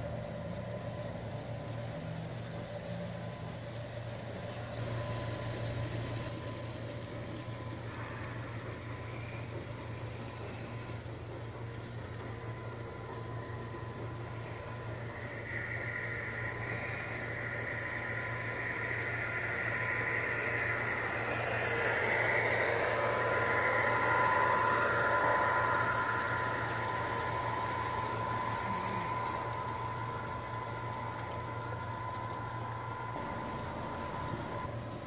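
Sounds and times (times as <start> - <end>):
model train motor whine: 0.0 - 35.0
wheels rolling on rail: 0.0 - 35.0.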